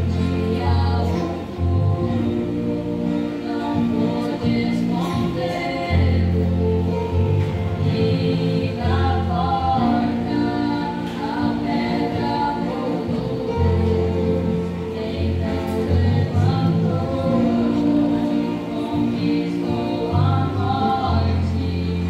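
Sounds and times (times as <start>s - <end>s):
group singing a hymn: 0.0s - 22.0s
instrumental accompaniment: 0.0s - 22.0s.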